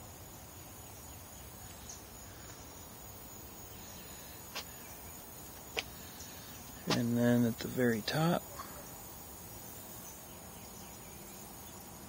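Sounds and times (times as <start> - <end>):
faint steady hiss: 0.0 - 12.0
thin high insect tone: 0.0 - 12.0.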